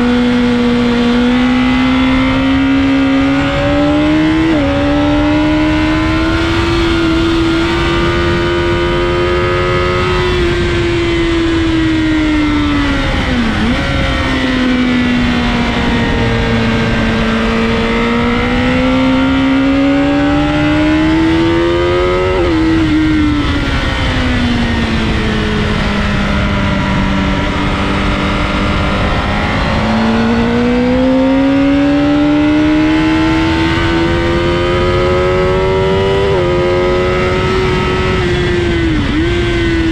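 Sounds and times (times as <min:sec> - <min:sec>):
motorcycle engine: 0:00.0 - 0:39.9
wind rush: 0:00.0 - 0:39.9.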